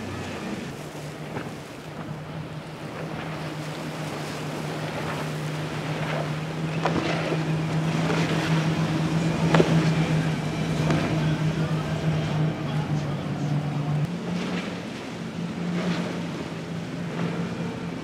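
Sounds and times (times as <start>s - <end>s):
hull slapping on waves: 0.0s - 18.0s
outboard engines droning: 0.0s - 18.0s.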